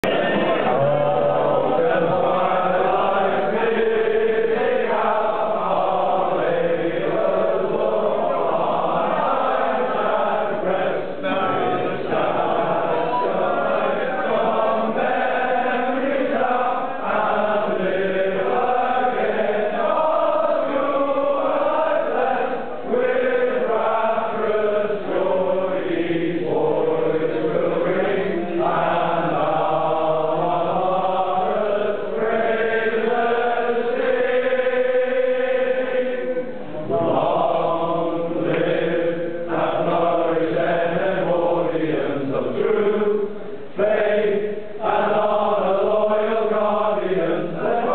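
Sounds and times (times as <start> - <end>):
men singing together: 0.0 - 47.9.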